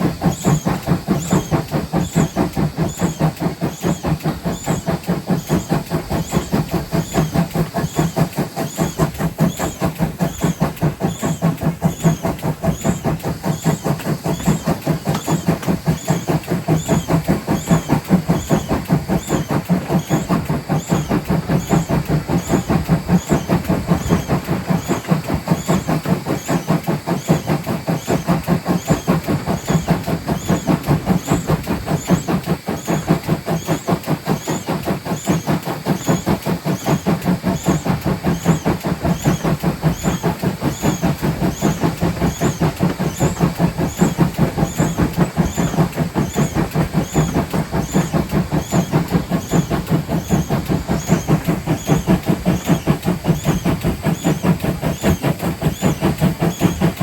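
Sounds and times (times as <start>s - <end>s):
locomotive running gear noise: 0.0s - 57.0s
steam locomotive rhythmic beat: 0.0s - 57.0s.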